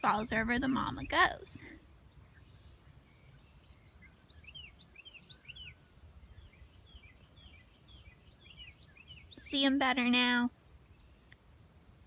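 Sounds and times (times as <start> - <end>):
faint birdsong chirps: 0.0 - 12.0.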